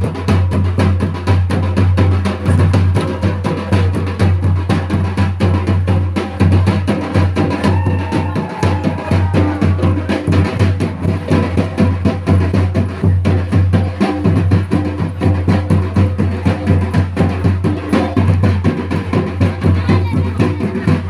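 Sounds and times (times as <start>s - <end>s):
drum-led dance music: 0.0s - 21.0s.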